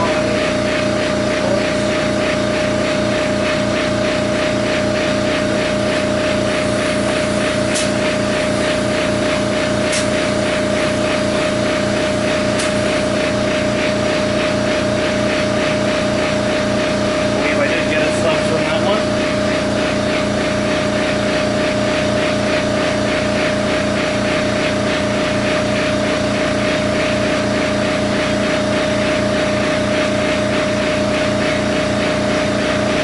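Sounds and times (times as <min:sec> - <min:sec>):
motor whining with fast pulsing: 0:00.0 - 0:33.0.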